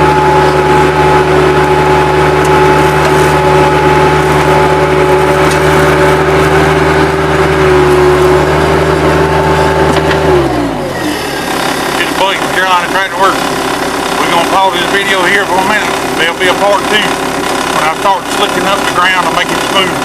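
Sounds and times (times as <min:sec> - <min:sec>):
loader engine running loud: 0:00.0 - 0:20.0.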